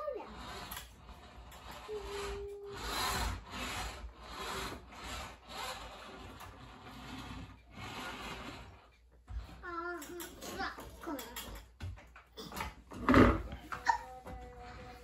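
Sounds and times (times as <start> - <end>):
toy truck rolling on wood: 0.0 - 15.0.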